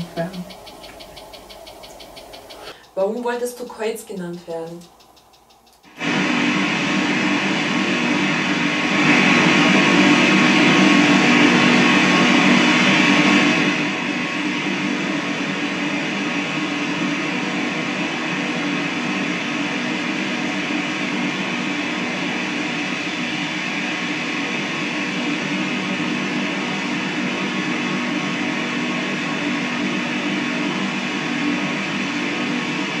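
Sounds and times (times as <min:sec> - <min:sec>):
dense hiss with low hum: 0:00.0 - 0:33.0.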